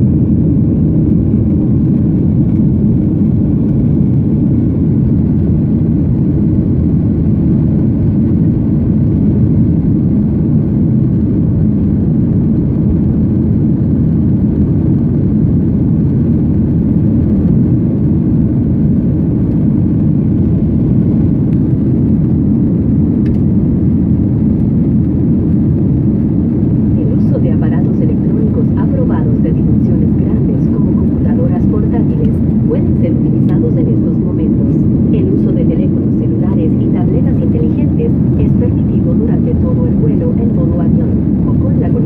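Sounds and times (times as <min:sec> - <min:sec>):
airliner engine rumble in cabin: 0:00.0 - 0:42.0.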